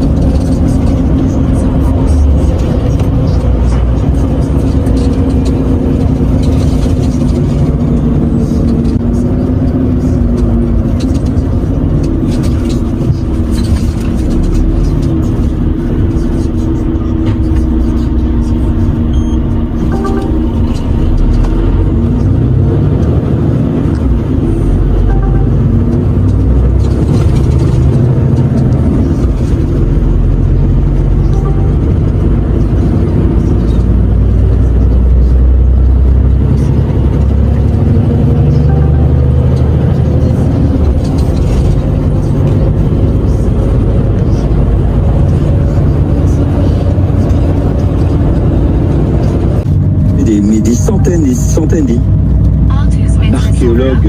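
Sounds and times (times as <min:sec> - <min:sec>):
road and tyre rumble: 0:00.0 - 0:54.0
truck diesel engine running: 0:00.0 - 0:54.0.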